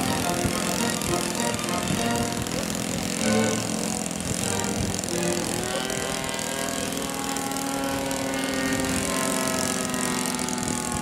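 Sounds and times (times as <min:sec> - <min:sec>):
model airplane motor droning: 0:00.0 - 0:11.0.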